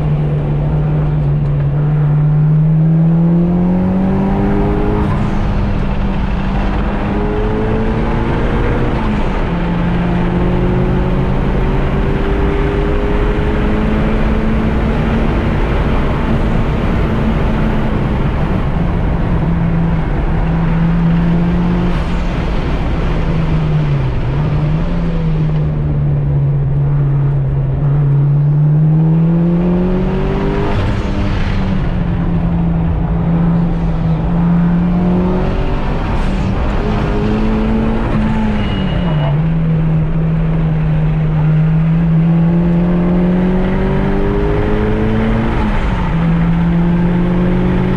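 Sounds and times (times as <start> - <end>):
car engine running hard: 0.0 - 47.9.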